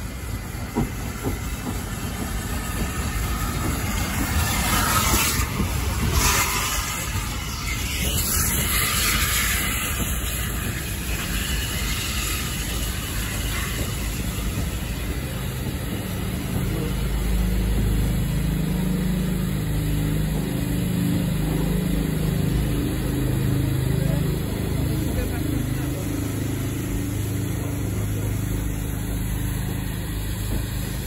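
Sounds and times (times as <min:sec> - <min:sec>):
steam train hissing: 0:00.0 - 0:31.0.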